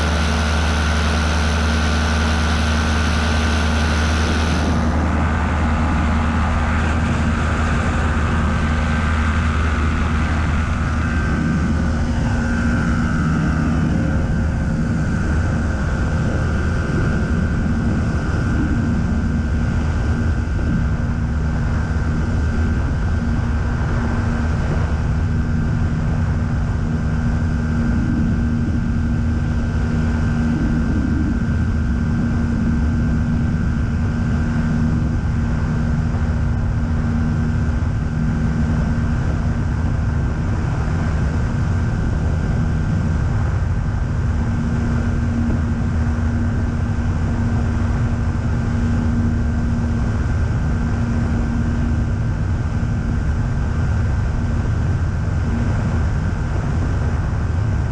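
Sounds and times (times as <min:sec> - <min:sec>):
motorglider engine and propeller drone: 0:00.0 - 0:57.9
wind rushing over microphone: 0:00.0 - 0:57.9.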